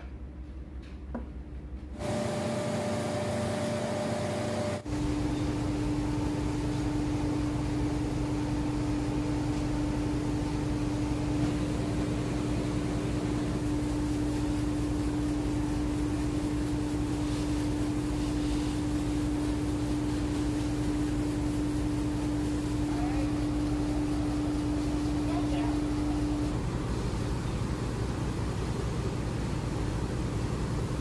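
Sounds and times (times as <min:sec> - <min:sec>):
machine drone with hum: 0:01.8 - 0:31.0.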